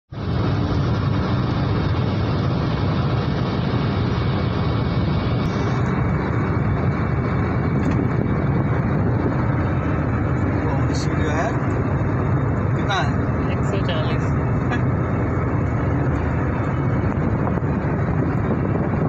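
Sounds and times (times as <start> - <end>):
car cabin road and wind noise: 0.1 - 19.0.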